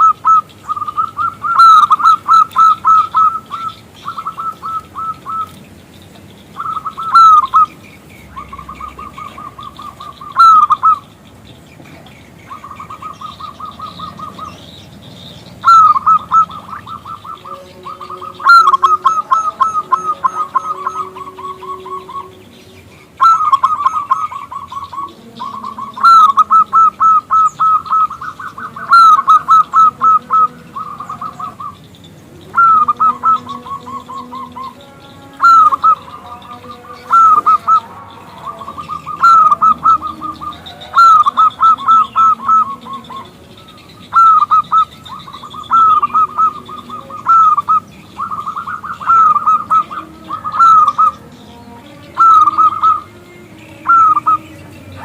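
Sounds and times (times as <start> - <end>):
dove staccato cooing: 0.0 - 55.0.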